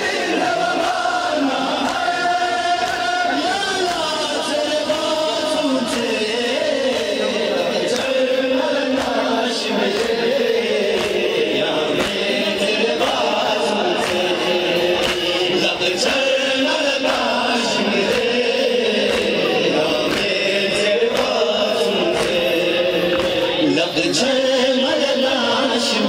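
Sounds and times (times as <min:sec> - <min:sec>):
men chanting a lament: 0:00.0 - 0:26.0.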